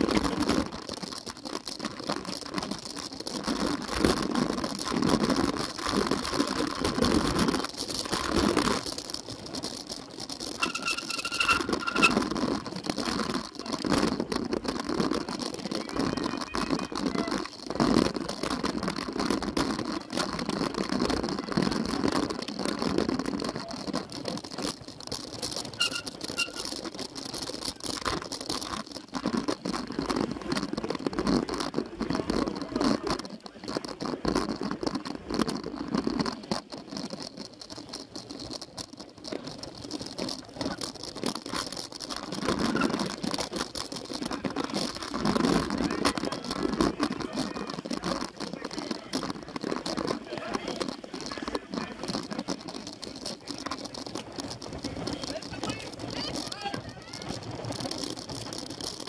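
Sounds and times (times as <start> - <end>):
bike rattling and clattering: 0.0 - 59.0
tyres rumbling on dirt: 0.0 - 59.0.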